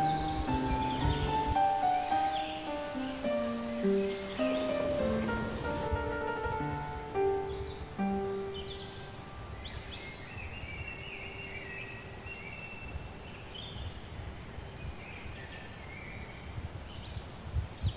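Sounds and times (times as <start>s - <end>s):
small birds chirping and singing: 0.0s - 17.9s.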